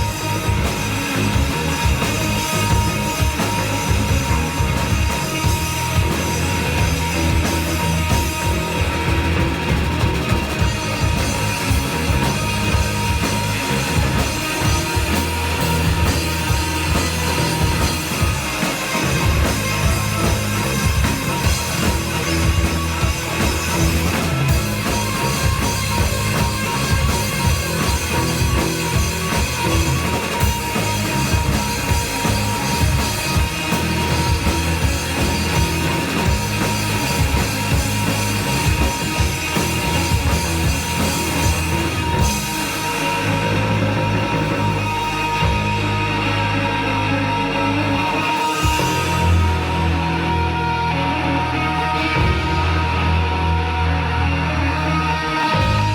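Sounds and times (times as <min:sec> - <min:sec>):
drum kit: 0:00.0 - 0:53.7, 0:54.7 - 0:55.9
bass guitar: 0:00.0 - 0:55.9
distorted guitars: 0:00.0 - 0:55.9.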